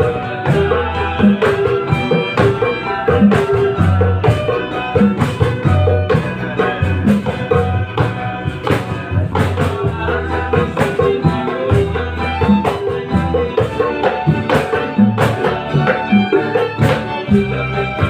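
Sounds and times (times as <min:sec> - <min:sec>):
band playing a song: 0:00.0 - 0:18.0.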